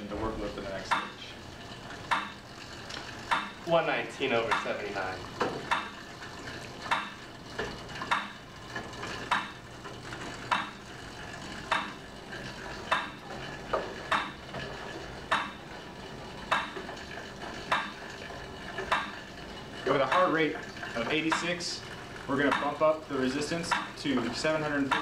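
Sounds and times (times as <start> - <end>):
exercise bike clicking: 0.0 - 25.0.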